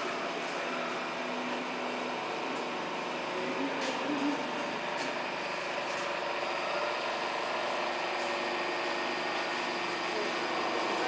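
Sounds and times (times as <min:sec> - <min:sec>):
riveting machine droning: 0:00.0 - 0:11.0.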